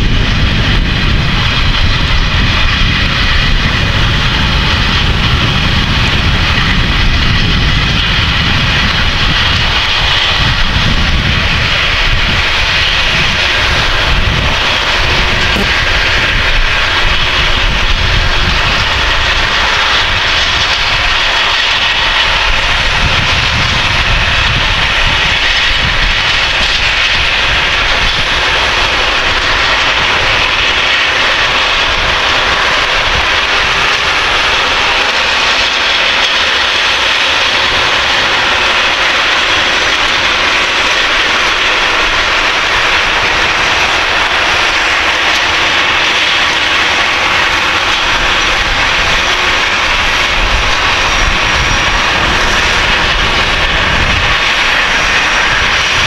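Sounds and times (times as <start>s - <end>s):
tractor engine rumble: 0.0s - 56.0s.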